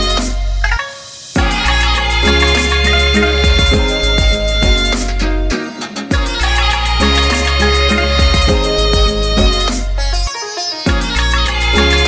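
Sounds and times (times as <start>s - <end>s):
music with beat and bowed strings: 0.0s - 12.0s.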